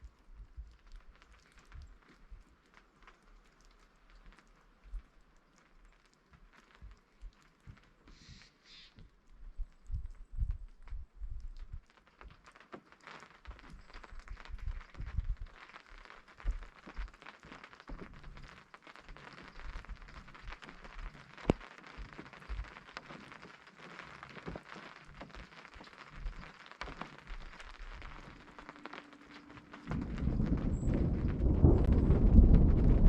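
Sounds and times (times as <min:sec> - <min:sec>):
light rain on a tent: 0:00.0 - 0:33.0.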